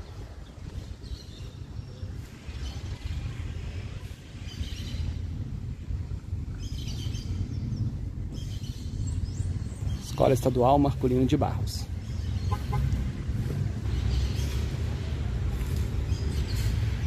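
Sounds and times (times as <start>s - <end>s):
birds chirping: 0.0s - 17.0s
low street noise rumble: 0.0s - 17.0s.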